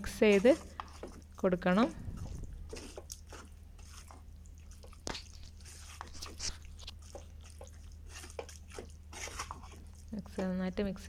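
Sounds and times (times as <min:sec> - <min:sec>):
spatula mixing wet food in pot: 0:00.0 - 0:11.0.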